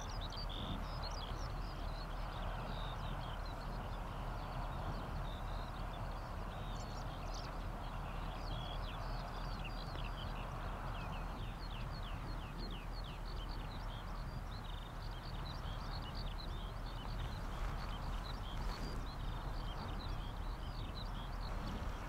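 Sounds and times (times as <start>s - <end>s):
small birds singing: 0.0s - 22.0s.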